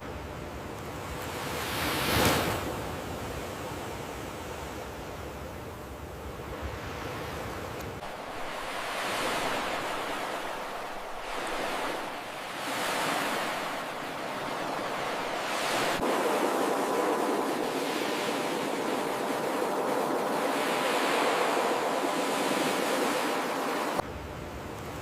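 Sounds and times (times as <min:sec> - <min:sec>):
ocean waves breaking on beach: 0:00.9 - 0:25.0.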